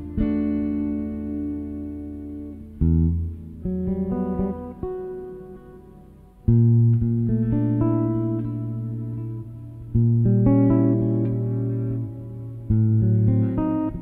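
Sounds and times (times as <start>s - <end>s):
electric jazz guitar: 0.0s - 14.0s.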